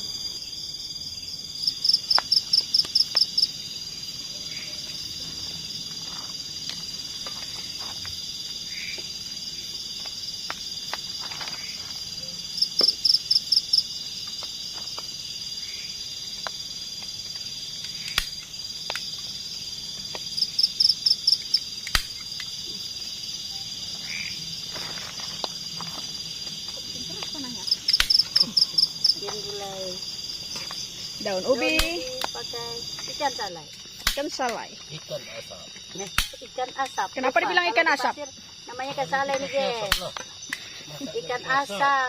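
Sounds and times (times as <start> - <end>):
insect chorus: 0.0 - 42.0.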